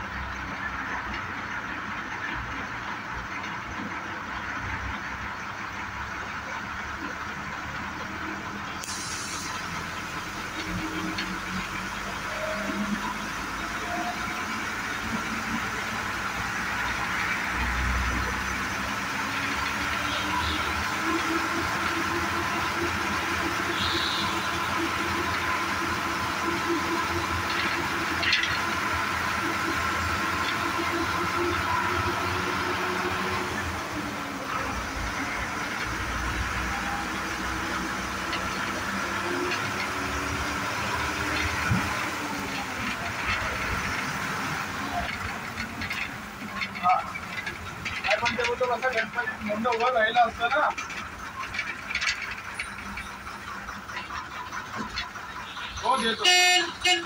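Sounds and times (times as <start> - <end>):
bus diesel engine running: 0.0 - 57.0
road rumble and hiss: 0.0 - 57.0
tyres on wet tarmac: 0.0 - 57.0.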